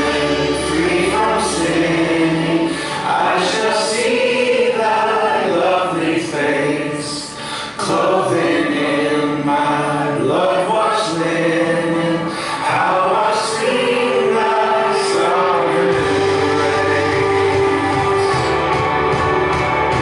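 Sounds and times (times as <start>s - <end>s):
congregation singing a hymn: 0.0s - 20.0s.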